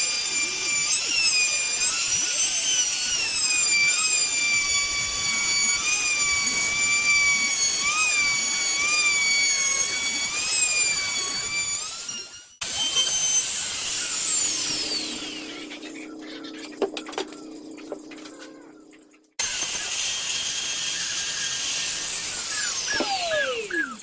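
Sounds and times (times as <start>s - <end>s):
electric saw cutting wood: 0.0s - 24.0s.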